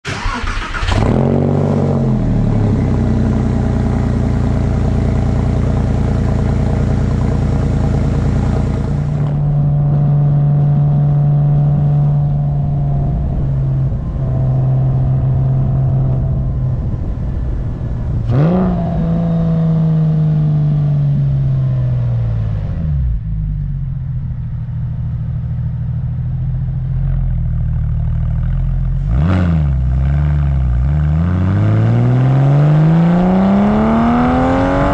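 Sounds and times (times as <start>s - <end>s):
car engine revving and idling: 0.1s - 34.9s.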